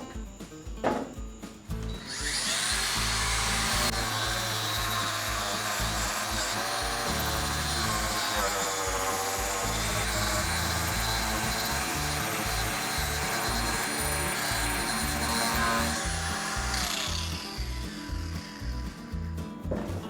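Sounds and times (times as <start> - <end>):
background music: 0.0 - 20.0
angle grinder grinding: 1.8 - 19.4.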